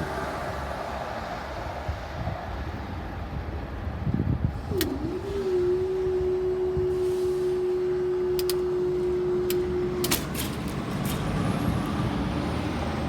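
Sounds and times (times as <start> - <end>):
barrier machinery humming: 0.0 - 13.0
road vehicles driving: 0.0 - 13.0.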